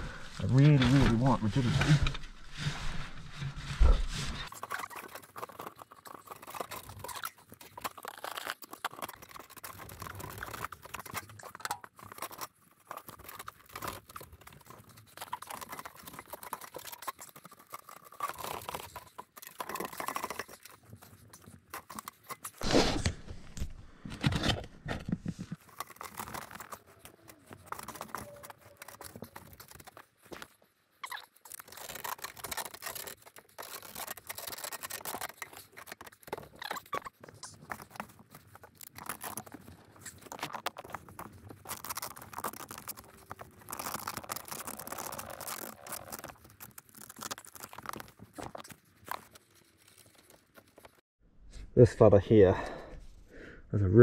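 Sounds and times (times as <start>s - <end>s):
metal duct crinkling and scraping: 0.1s - 51.0s.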